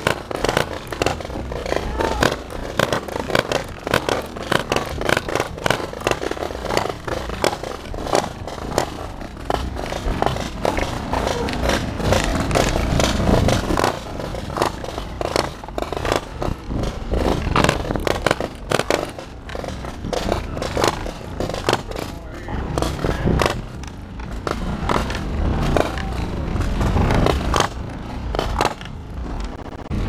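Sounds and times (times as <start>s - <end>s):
train car rumbling: 0.0s - 30.0s.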